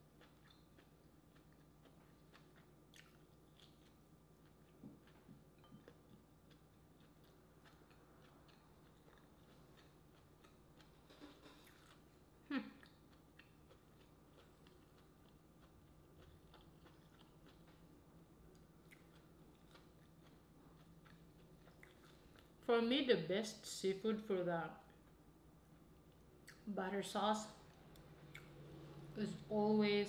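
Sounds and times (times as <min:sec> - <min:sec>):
soft chewing of food: 0:00.0 - 0:22.7, 0:24.7 - 0:26.8, 0:27.5 - 0:29.5.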